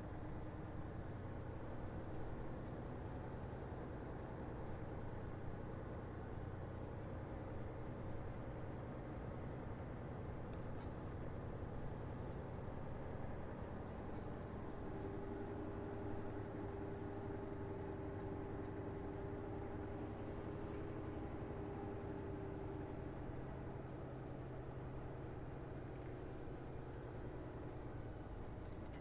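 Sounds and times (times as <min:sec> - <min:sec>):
truck diesel engine humming: 0:00.0 - 0:29.0.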